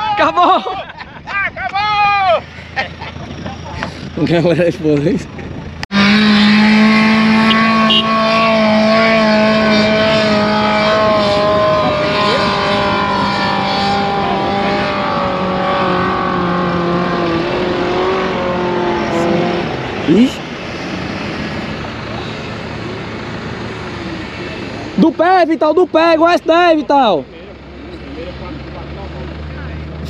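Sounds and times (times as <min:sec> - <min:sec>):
pickup engine labouring: 0:00.0 - 0:30.0.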